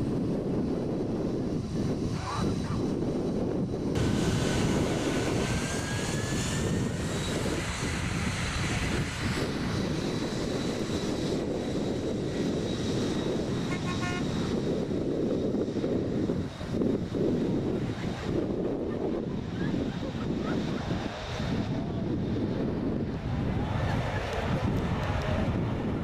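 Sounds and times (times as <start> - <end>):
jet engines roaring with high whine: 0.0 - 26.0.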